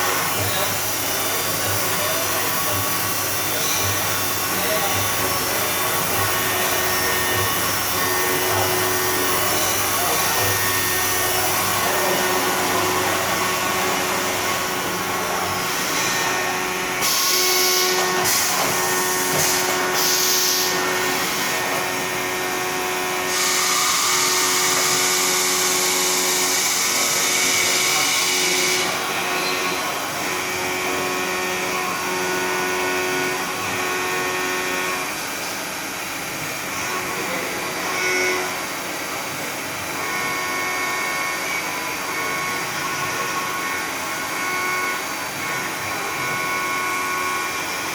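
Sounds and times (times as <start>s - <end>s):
machine spindle whine: 0.0s - 47.9s.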